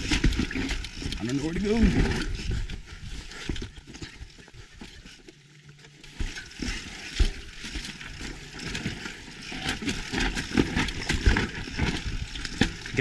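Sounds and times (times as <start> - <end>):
mountain bike rattling on trail: 0.0 - 13.0.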